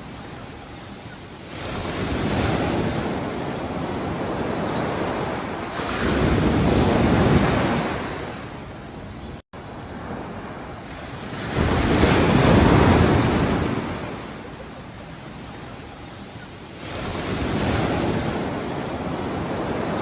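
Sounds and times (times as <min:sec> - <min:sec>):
ocean waves washing ashore: 0:00.0 - 0:20.0.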